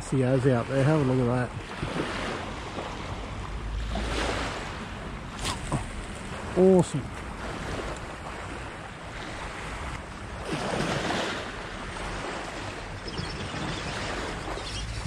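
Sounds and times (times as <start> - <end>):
small waves washing on shore: 0.0 - 15.0
wind rumbling on microphone: 1.5 - 15.0.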